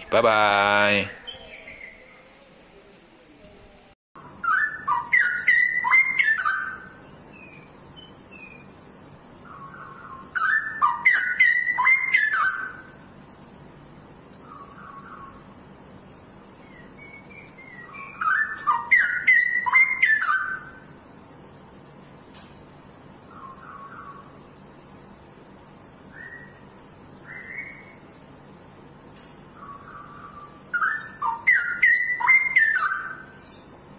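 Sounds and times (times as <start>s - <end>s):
bulbul singing: 0.0s - 2.8s, 4.2s - 13.6s, 14.2s - 21.6s, 22.4s - 28.2s, 29.2s - 33.9s.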